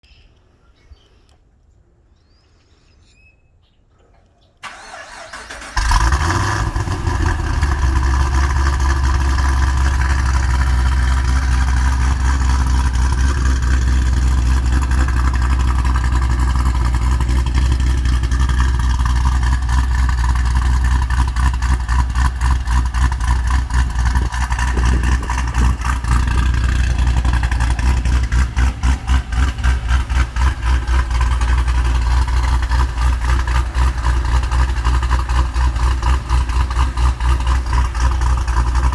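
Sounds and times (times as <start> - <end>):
engine cranking and idling: 4.6 - 38.9.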